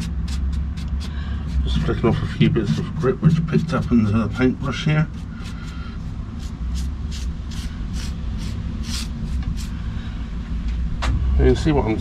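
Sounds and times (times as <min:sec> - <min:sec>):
paintbrush scratchy strokes: 0:00.0 - 0:09.8
steady low rumble: 0:00.0 - 0:12.0.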